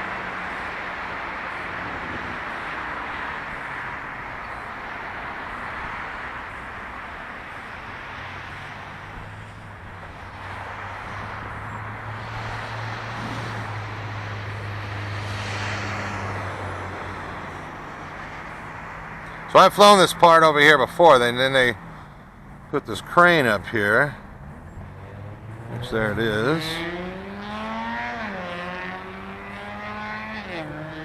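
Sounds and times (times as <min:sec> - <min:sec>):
low vehicle engine hum: 0:00.0 - 0:31.0
road traffic noise: 0:00.0 - 0:31.0.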